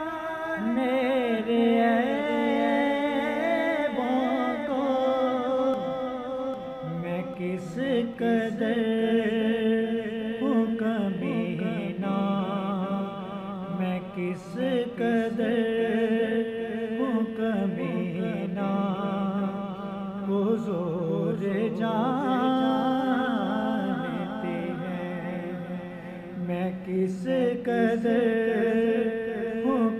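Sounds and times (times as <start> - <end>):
man singing devotional song: 0.0 - 29.9.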